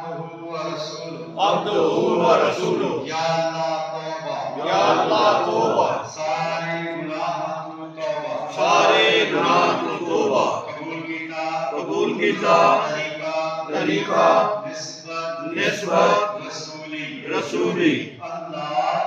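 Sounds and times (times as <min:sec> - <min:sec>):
men chanting together: 0:00.8 - 0:18.2.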